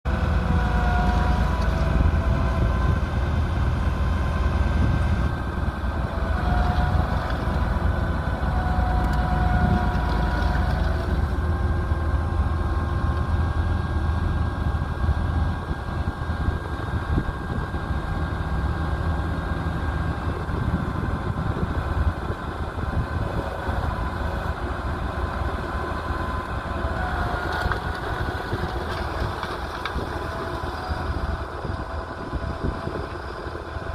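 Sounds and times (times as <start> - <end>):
tractor diesel engine rumbling: 0.0 - 33.9.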